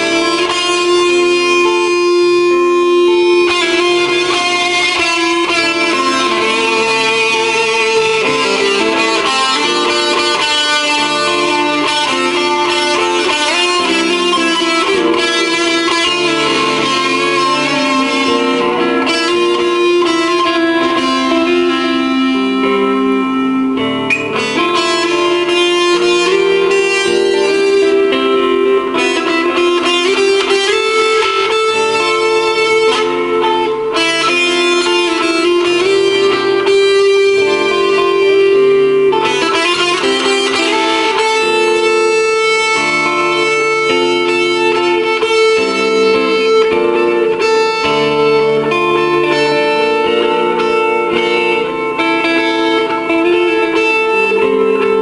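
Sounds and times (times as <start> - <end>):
electric guitar with reverb and delay: 0.0 - 55.0.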